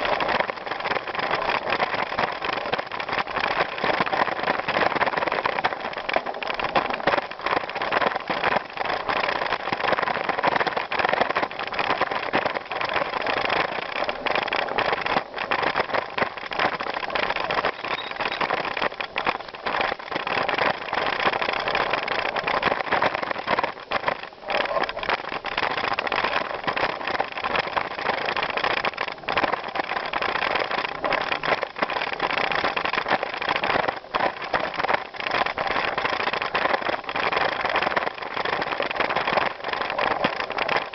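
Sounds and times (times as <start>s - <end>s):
bike clicks and rattles: 0.0s - 40.9s
tyres on gravel: 0.0s - 40.9s.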